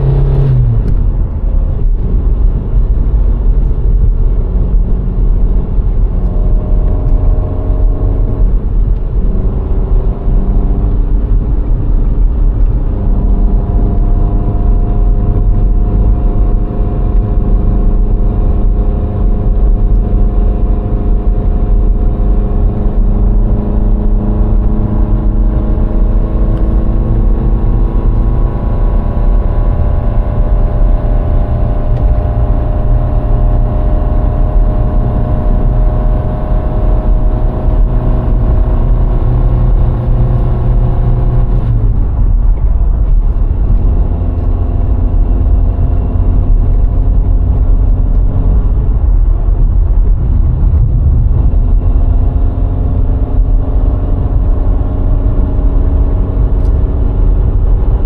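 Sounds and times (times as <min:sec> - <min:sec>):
car engine running: 0:00.0 - 0:58.0
road rumble: 0:00.0 - 0:58.0.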